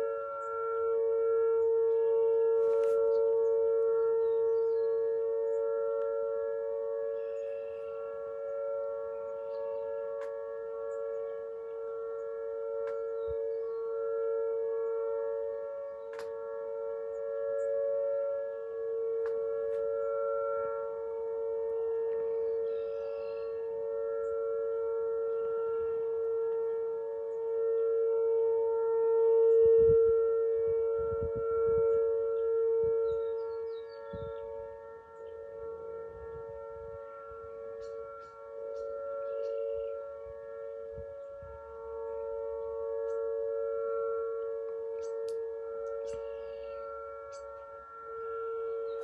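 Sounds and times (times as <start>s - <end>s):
tornado siren steady tone: 0.0s - 49.0s.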